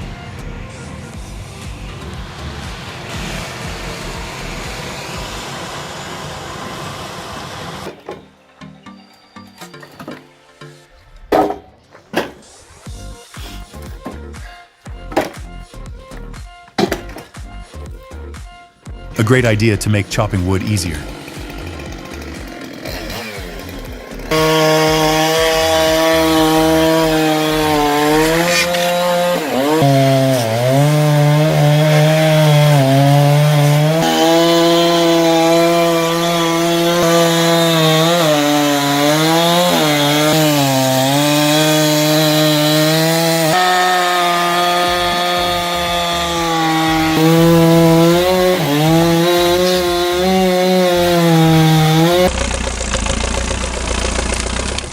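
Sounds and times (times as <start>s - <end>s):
chainsaw cutting wood: 1.0s - 8.4s, 11.3s - 17.9s, 19.2s - 54.9s.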